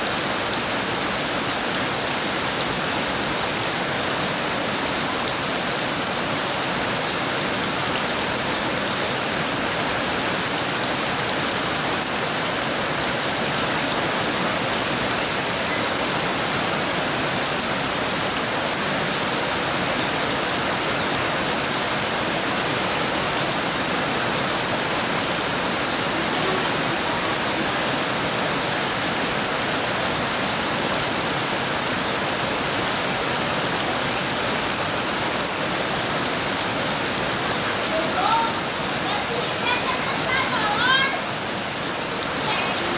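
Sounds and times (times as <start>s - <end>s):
heavy rain: 0.0s - 42.9s
raindrops pattering on surfaces: 0.0s - 42.9s.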